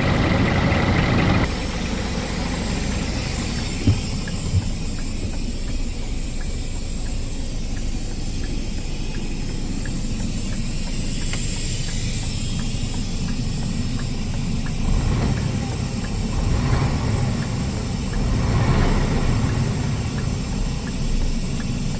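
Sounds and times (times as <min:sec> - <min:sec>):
diesel truck engine idling: 0:00.0 - 0:21.9
faint regular ticking: 0:00.1 - 0:21.9.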